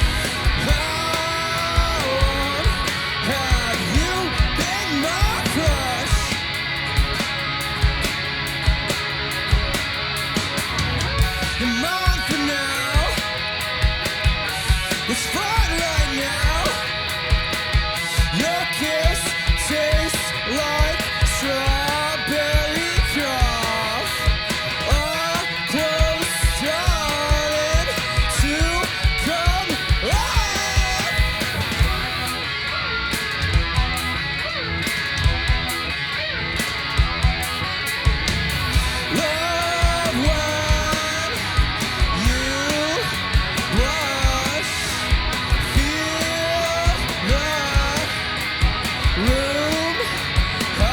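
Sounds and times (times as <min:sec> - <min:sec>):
drum kit beat: 0:00.0 - 0:50.9
electric guitar: 0:00.0 - 0:50.9.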